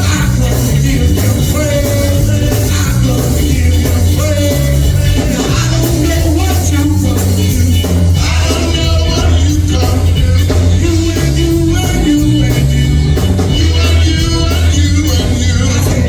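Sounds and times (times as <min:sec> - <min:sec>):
bass line: 0:00.0 - 0:16.0
church band music: 0:00.0 - 0:16.0
steady drum beat: 0:00.0 - 0:16.0.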